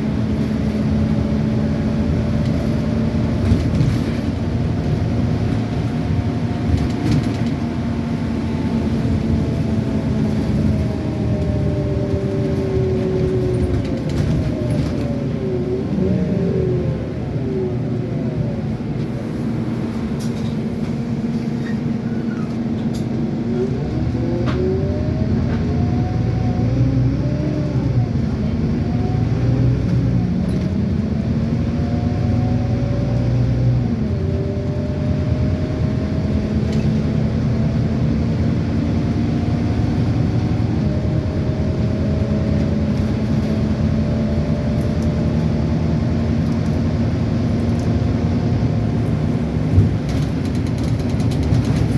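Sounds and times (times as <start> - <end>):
bus engine accelerating: 0.0 - 51.9.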